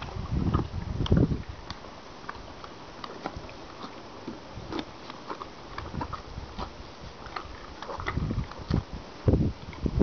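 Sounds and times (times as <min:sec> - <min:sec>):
horse chewing: 0:00.0 - 0:09.9.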